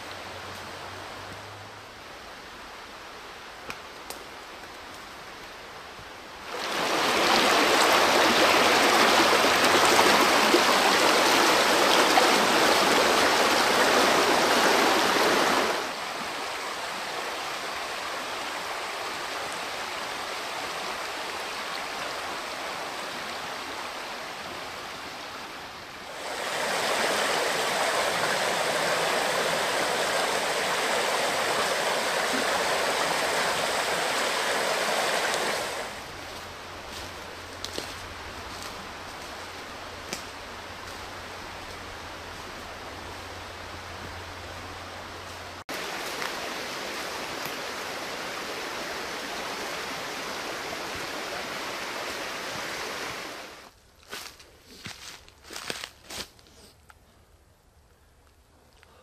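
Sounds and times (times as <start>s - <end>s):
water running in a stream: 6.3s - 53.7s.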